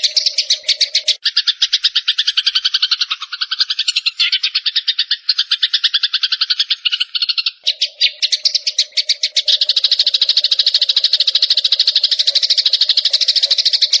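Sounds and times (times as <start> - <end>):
songbird trilling chirps: 0.0 - 14.0.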